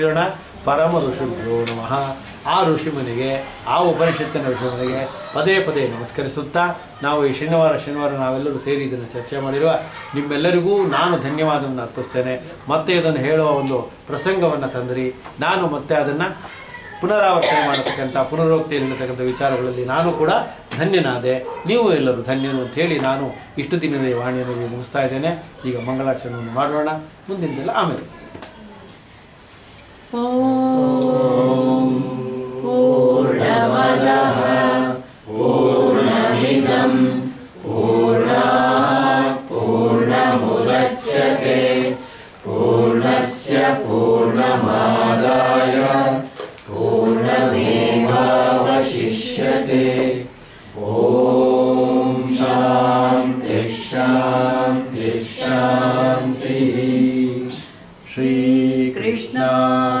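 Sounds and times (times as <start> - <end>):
voices chanting a prayer: 0.0 - 28.2, 29.4 - 60.0.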